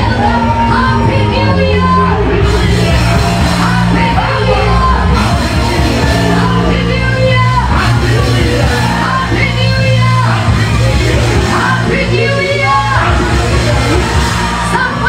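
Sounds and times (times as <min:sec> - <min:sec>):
worship music with singing: 0:00.0 - 0:15.0.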